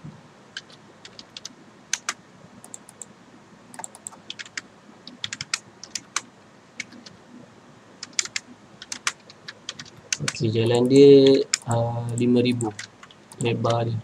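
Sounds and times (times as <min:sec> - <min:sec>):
keyboard typing: 0:00.6 - 0:03.1, 0:03.7 - 0:07.2, 0:08.0 - 0:13.8.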